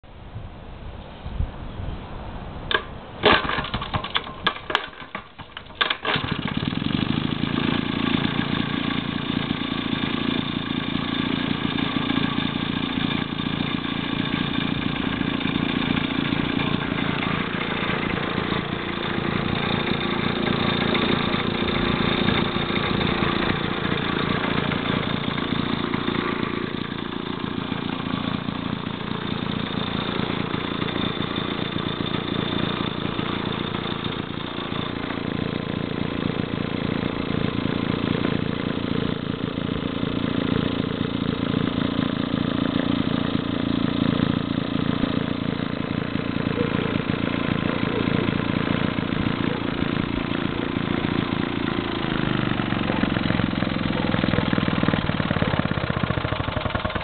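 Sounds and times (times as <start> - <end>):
two-stroke engine running: 2.7 - 57.0.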